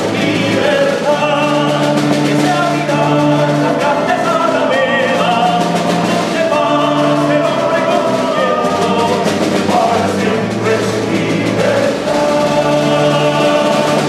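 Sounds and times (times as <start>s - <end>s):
folk instruments playing: 0.0s - 14.0s
people singing long notes: 0.0s - 14.0s.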